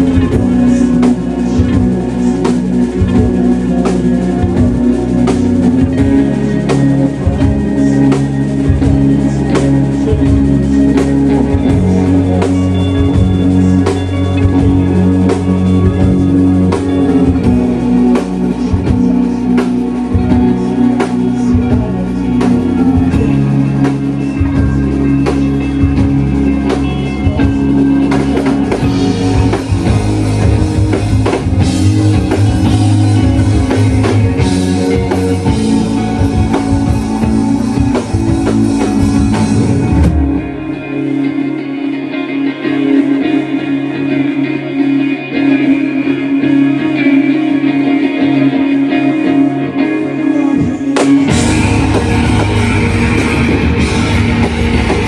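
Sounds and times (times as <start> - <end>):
drum kit beat: 0.0 - 41.2, 50.4 - 55.0
bass guitar: 0.0 - 55.0
distorted guitars: 0.0 - 55.0.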